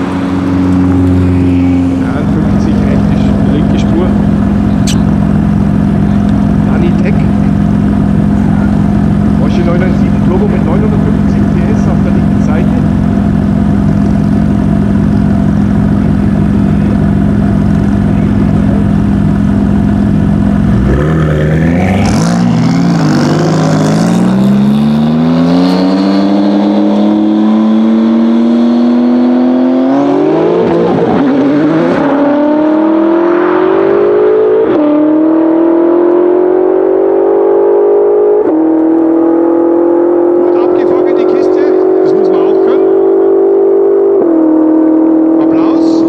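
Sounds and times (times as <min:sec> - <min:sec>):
car engine revving and accelerating: 0:00.0 - 0:46.0
second car engine accelerating: 0:00.0 - 0:46.0.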